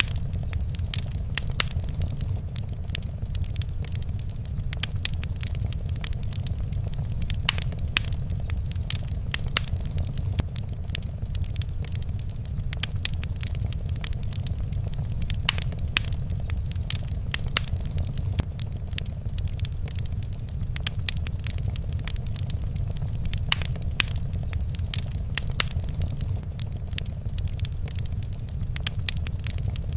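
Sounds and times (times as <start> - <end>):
low rumble: 0.0 - 29.9
wood fire crackling: 0.0 - 29.9.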